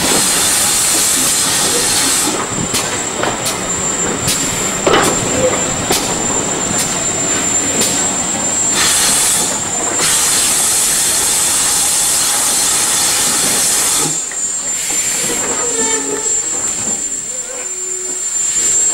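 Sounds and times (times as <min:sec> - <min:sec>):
steam hissing: 0:00.0 - 0:18.9
train wheel clicks on rail joints: 0:00.0 - 0:18.9.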